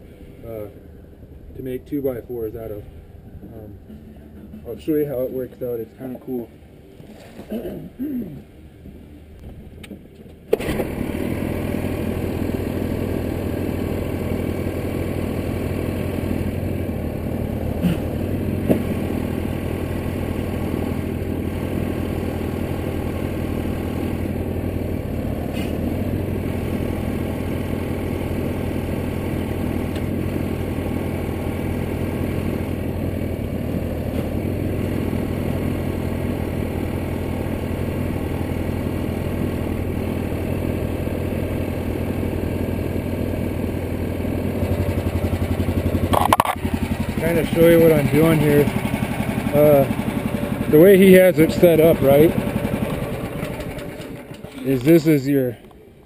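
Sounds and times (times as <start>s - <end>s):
gasoline engine running: 0.0s - 56.0s.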